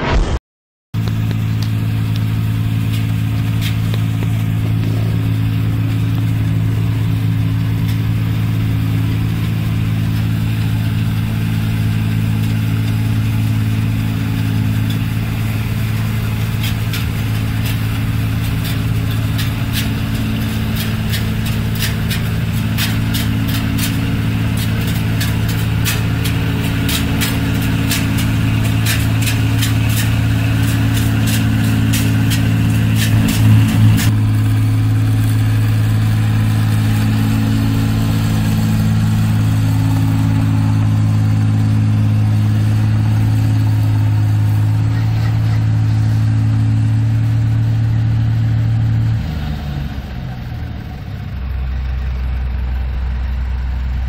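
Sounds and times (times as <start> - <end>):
diesel engine running under load: 1.0 - 54.0.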